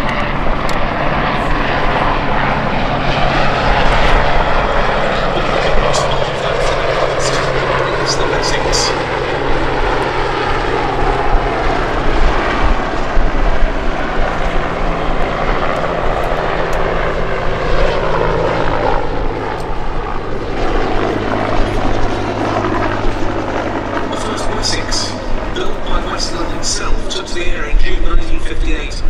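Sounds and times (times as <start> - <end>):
helicopter engines and rotors droning: 0.0 - 29.0.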